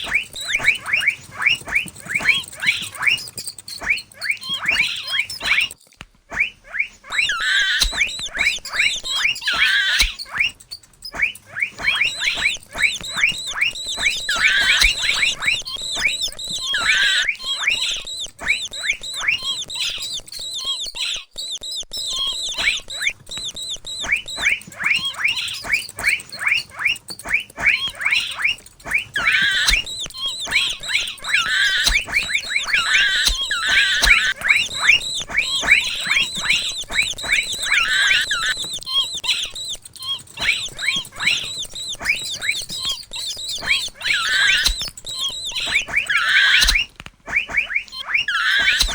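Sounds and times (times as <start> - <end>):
mouse squeaking: 0.0 - 48.9.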